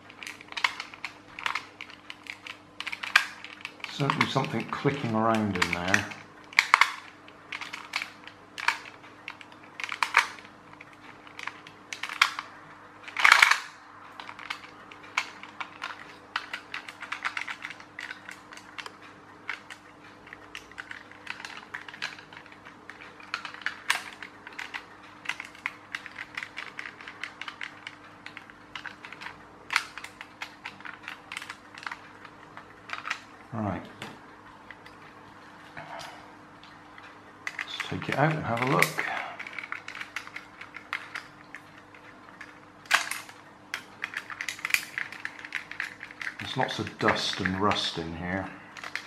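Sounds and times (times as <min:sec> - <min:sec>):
plastic gears clicking: 0:00.0 - 0:33.3, 0:37.4 - 0:48.2, 0:48.8 - 0:49.0.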